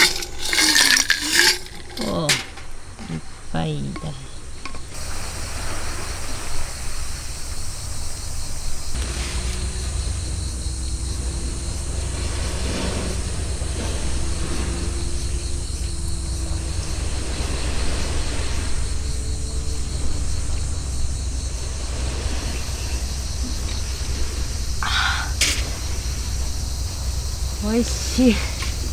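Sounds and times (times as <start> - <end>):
faint pulsing insect trill: 0.0 - 28.9
wind rumbling on microphone: 0.0 - 28.9.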